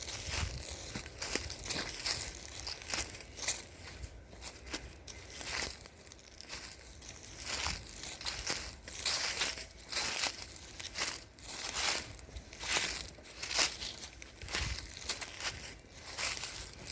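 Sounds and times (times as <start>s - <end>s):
footsteps through dry leaves: 0.0s - 16.9s.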